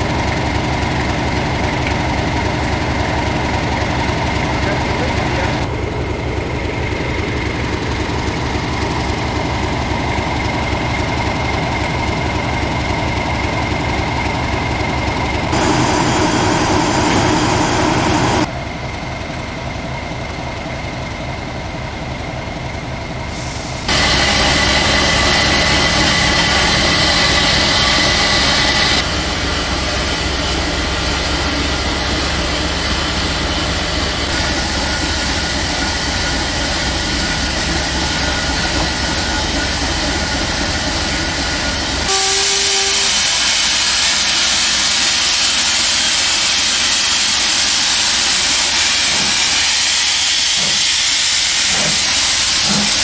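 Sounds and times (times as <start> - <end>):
train running: 0.0 - 53.0.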